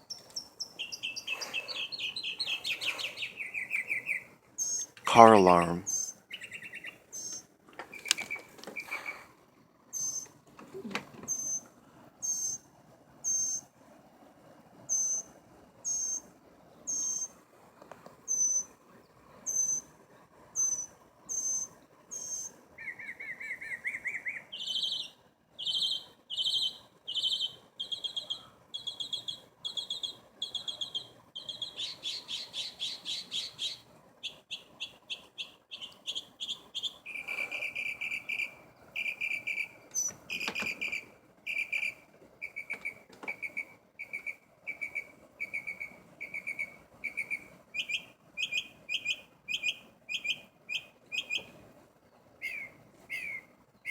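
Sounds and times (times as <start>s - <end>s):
songbird mimicking car alarm: 0.4s - 9.1s, 10.0s - 10.4s, 11.3s - 13.6s, 14.9s - 16.3s, 16.9s - 17.4s, 18.3s - 18.7s, 19.5s - 19.9s, 20.6s - 51.5s.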